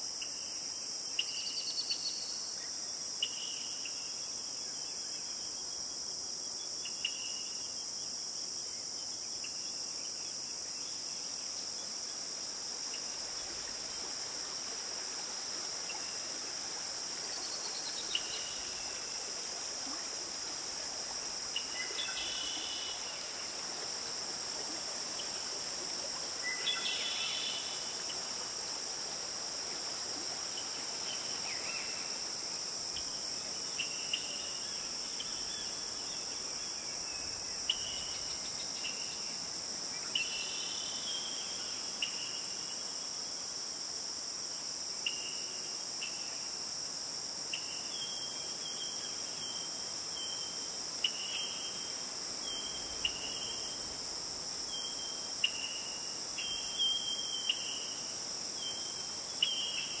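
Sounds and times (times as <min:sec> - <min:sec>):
insect chorus: 0:00.0 - 1:00.0.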